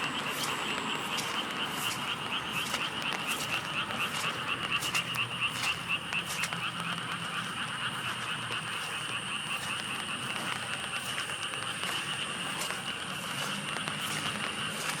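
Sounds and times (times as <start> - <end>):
frogs calling in chorus: 0.0 - 15.0
water drips: 0.0 - 15.0.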